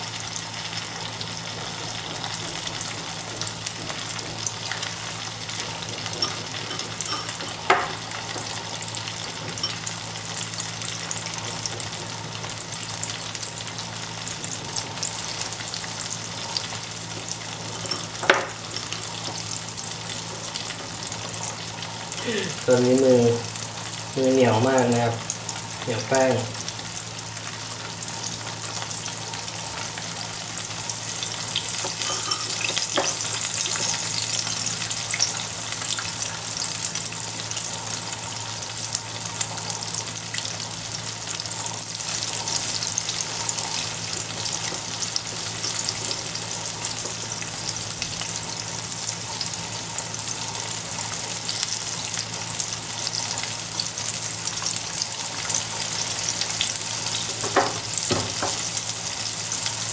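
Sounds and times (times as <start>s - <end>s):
tofu frying in oil: 0.0s - 59.9s.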